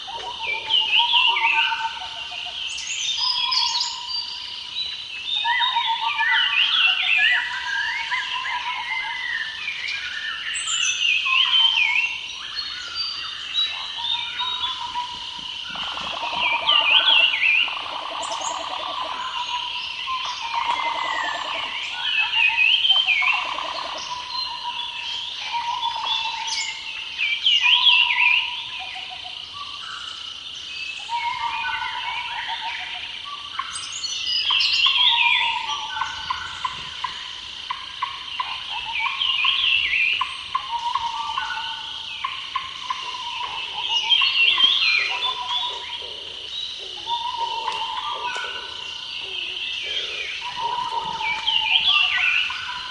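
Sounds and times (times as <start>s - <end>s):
birds chirping and calling: 0.0s - 52.9s.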